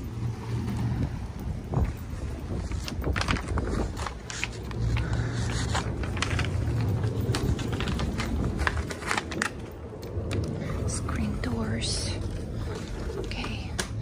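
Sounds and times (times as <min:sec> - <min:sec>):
wind on microphone: 0:00.3 - 0:13.3.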